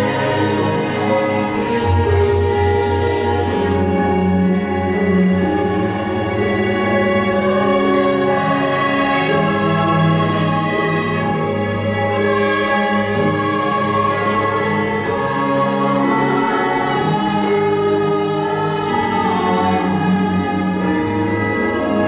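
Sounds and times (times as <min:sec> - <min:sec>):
gamelan ensemble: 0:00.0 - 0:22.0
orchestra playing: 0:00.0 - 0:22.0
women's chorus singing: 0:00.0 - 0:22.0.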